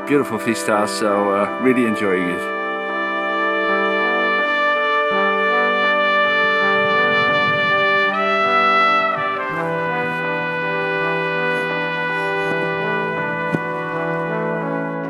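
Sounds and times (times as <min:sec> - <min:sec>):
brass sustained chords: 0:00.0 - 0:15.0.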